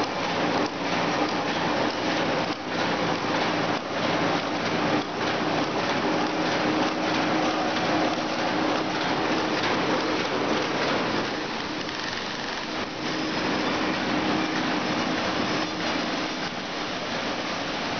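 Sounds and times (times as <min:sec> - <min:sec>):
machine hum: 0:00.0 - 0:17.9.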